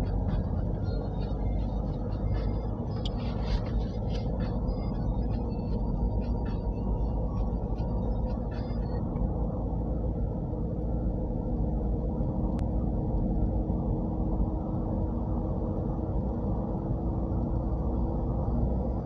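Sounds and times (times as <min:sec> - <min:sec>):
car road and engine noise: 0:00.0 - 0:19.0
faint steady hum: 0:00.0 - 0:19.0.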